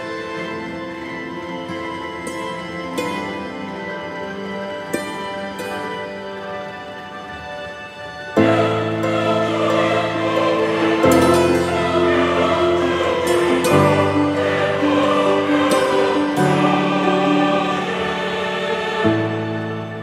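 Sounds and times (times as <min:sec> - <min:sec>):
slow choral chords: 0:00.0 - 0:20.0.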